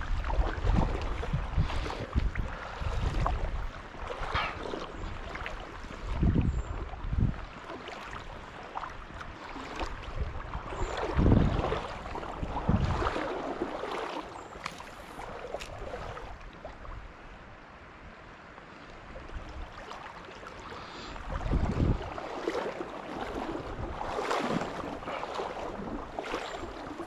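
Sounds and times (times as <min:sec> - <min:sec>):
wind rumbling on microphone: 0:00.0 - 0:17.6, 0:20.8 - 0:27.0
creek water running: 0:00.0 - 0:27.0.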